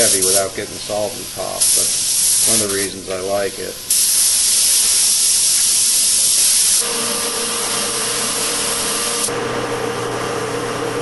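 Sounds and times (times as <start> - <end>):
spray gun hissing: 0.0 - 9.3.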